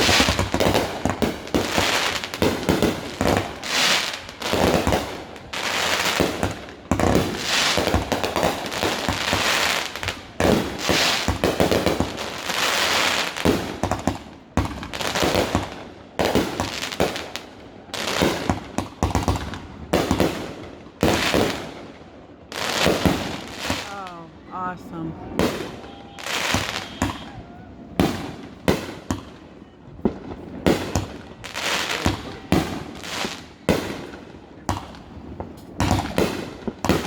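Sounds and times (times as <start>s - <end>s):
fireworks banging and crackling: 0.0s - 37.0s.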